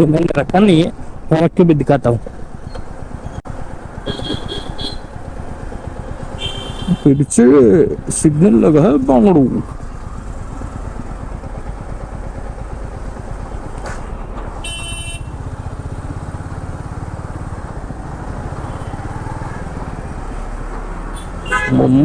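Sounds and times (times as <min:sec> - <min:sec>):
motorcycle engine idling: 0:02.2 - 0:21.8.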